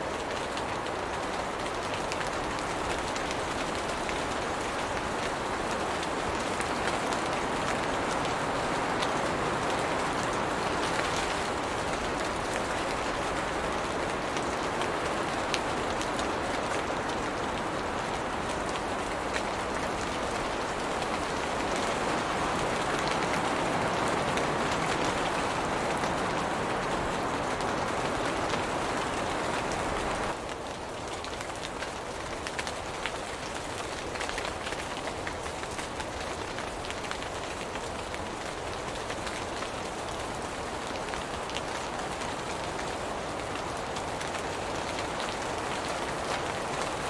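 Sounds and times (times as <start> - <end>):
rain falling on leaves: 0.0 - 47.0.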